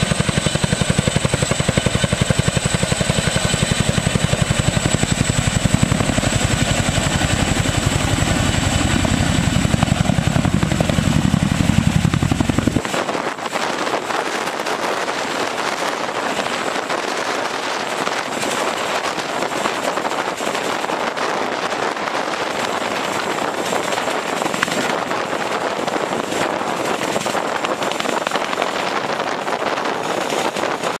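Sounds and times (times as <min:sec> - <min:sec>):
turbine engine whine: 0:00.0 - 0:30.9
helicopter rotor roar: 0:00.0 - 0:31.0.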